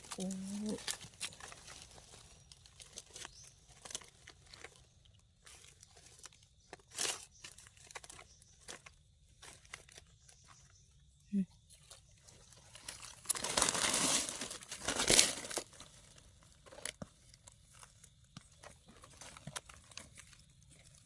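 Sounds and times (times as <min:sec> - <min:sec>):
dry leaves rustling and crackling: 0:00.0 - 0:10.8, 0:11.8 - 0:21.0.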